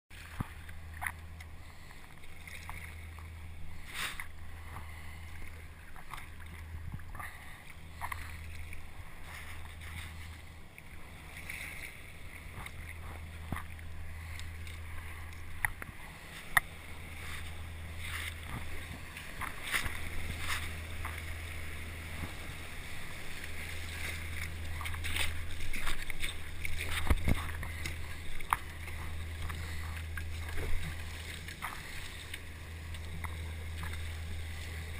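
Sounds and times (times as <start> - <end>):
paddle strokes splashing: 0.1 - 34.9
steady low drone: 0.1 - 34.9
water rushing and splashing: 0.1 - 34.9.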